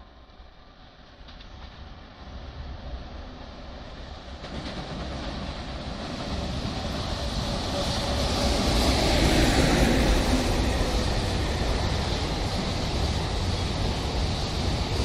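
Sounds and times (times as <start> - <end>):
freight train passing: 0.0 - 15.0
train wheels on rails: 0.0 - 15.0.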